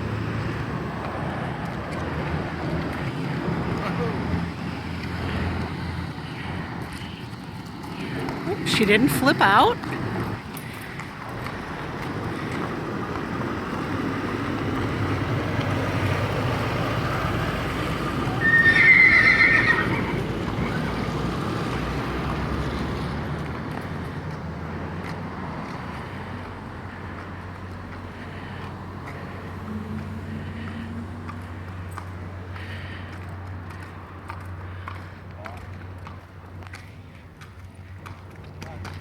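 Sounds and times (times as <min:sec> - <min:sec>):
truck rumbling past: 0:00.0 - 0:39.0.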